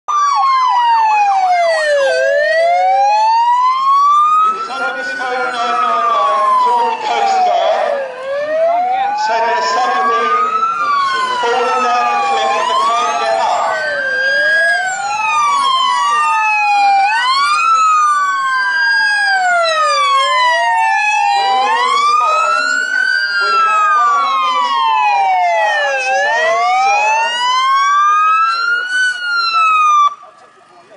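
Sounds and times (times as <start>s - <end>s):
siren fast yelp: 0.1s - 30.3s
siren slow wail: 0.1s - 30.7s
steady stepping siren tones: 0.1s - 30.9s.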